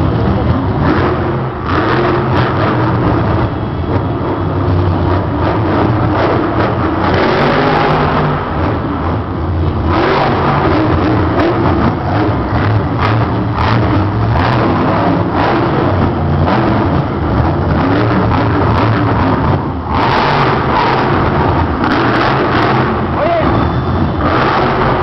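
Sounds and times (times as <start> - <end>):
truck engines revving: 0.0 - 25.0.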